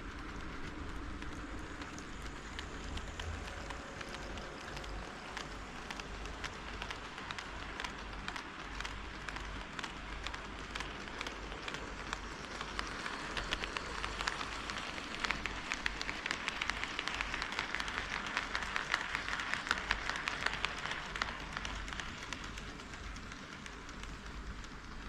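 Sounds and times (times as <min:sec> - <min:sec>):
model train wheels rattling: 0:00.0 - 0:25.0.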